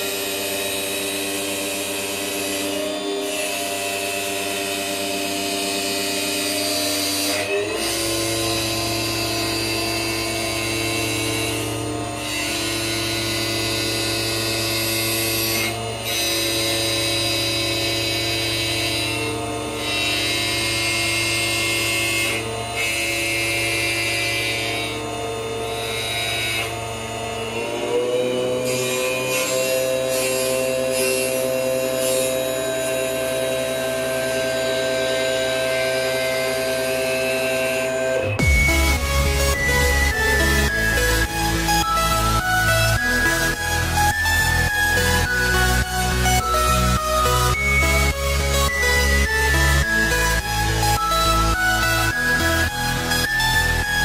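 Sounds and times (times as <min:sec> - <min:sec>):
lathe motor whine: 0:00.0 - 0:54.0.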